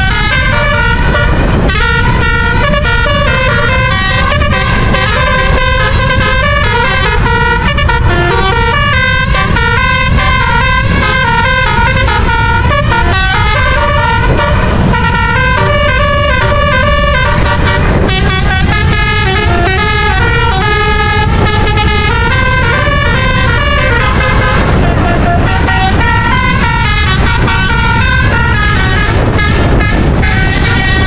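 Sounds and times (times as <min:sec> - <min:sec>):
low engine rumble: 0:00.0 - 0:31.0
musical air horn tune: 0:00.0 - 0:31.0.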